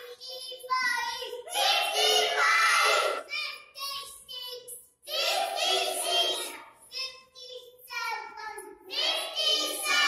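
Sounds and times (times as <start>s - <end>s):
young child singing: 0.0s - 10.0s.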